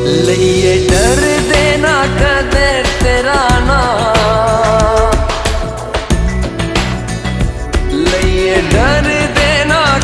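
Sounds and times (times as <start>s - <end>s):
pop instrumental with drum beat: 0.0s - 10.0s.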